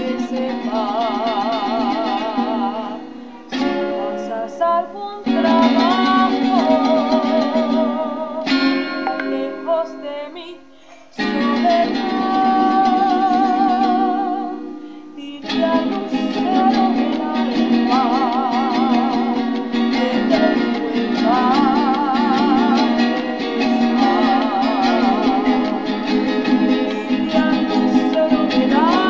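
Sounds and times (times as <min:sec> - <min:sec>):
strummed string accompaniment: 0:00.0 - 0:29.0
woman singing with vibrato: 0:00.0 - 0:29.0.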